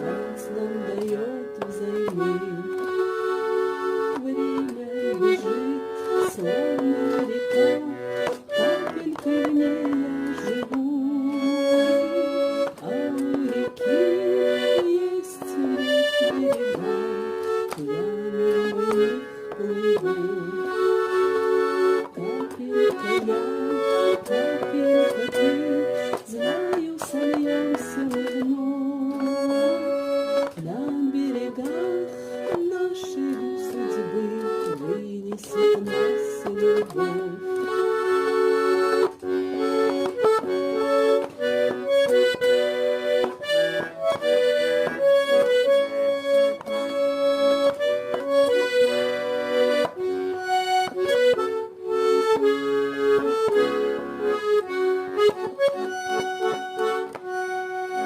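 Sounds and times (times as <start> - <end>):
button accordion melody: 0.0 - 58.0.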